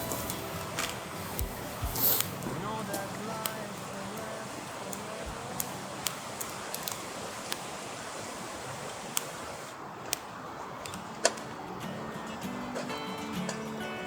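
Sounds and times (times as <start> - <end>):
sharp clicks: 0.0 - 11.6
rushing wind: 0.0 - 13.8.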